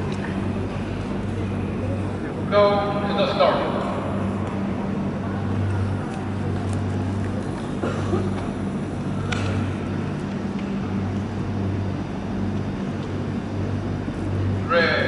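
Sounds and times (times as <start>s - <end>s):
low even hum: 0.0s - 15.0s.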